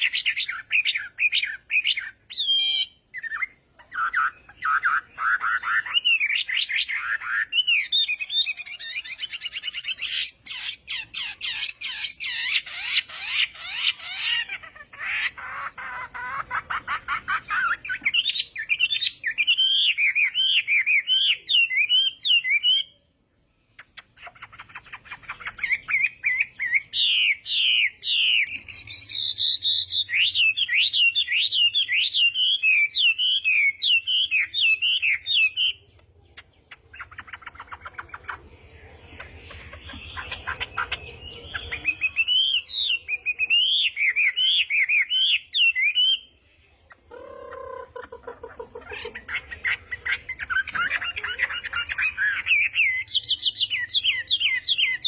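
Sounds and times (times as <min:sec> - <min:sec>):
songbird singing whistled phrases: 0:00.0 - 0:23.1, 0:23.7 - 0:48.0, 0:49.0 - 0:55.0.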